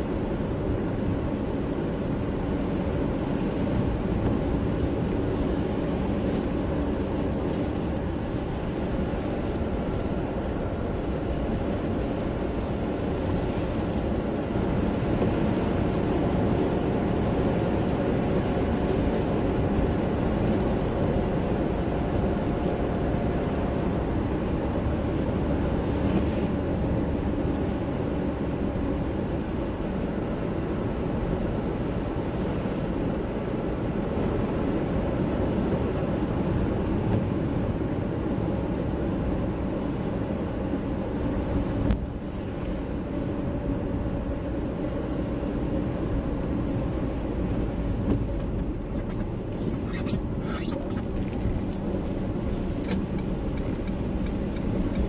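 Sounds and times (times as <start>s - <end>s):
car engine hum: 0.0s - 55.0s
tyre noise on wet road: 0.0s - 55.0s.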